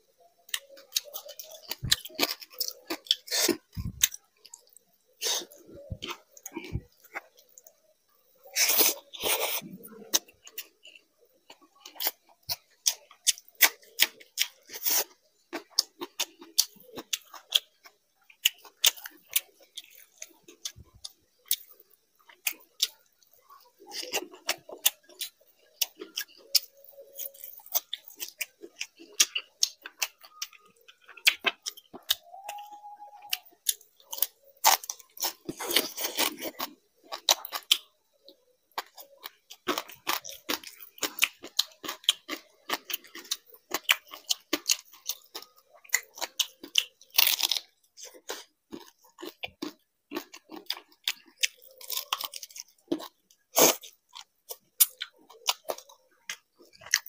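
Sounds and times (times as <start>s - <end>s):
wet chewing: 0.4s - 7.8s, 8.4s - 57.0s.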